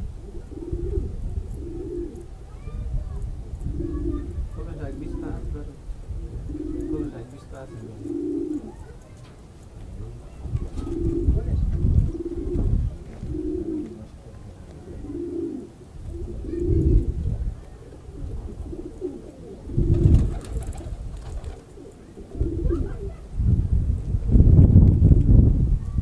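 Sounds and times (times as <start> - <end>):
pigeons cooing: 0.0 - 9.3, 10.0 - 23.3.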